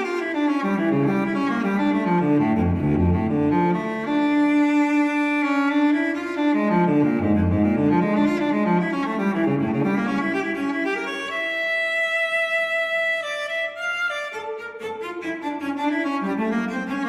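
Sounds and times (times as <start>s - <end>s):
slow bowed strings melody: 0.0s - 17.0s.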